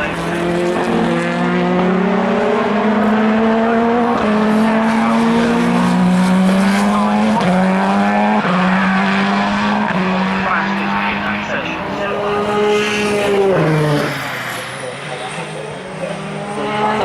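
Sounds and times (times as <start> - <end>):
race car engines accelerating: 0.0 - 17.0.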